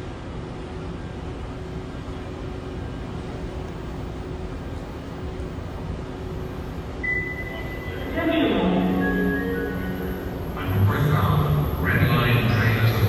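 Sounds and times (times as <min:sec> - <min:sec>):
faint steady hum: 0:00.0 - 0:13.0
rumbling hiss of metro platform: 0:00.0 - 0:13.0.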